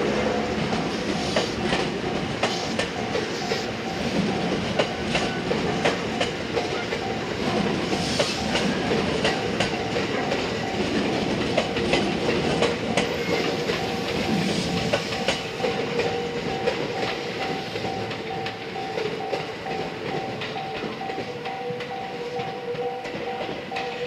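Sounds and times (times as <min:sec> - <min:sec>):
steady train hum: 0:00.0 - 0:24.0
train rumbling past: 0:00.0 - 0:24.0
wheels clicking over rail joints: 0:00.0 - 0:24.0.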